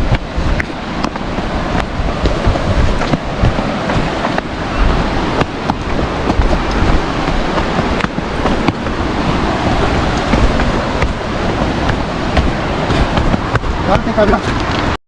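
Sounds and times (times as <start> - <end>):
steady rushing noise: 0.0 - 15.0
wind buffeting microphone: 0.0 - 15.0.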